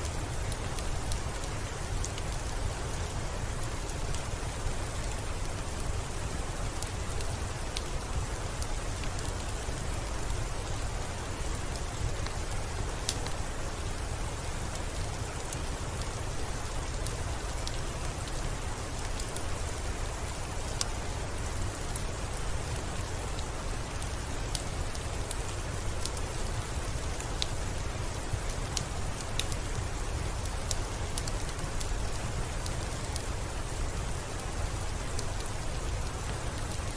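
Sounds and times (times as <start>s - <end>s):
steady rain falling: 0.0s - 36.9s
wood fire crackling: 6.8s - 36.9s.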